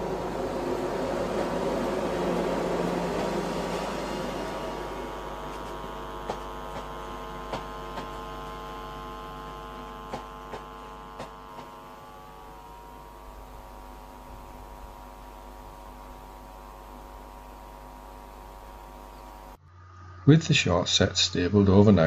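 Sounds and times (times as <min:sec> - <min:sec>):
steady train hum: 0:00.0 - 0:19.6.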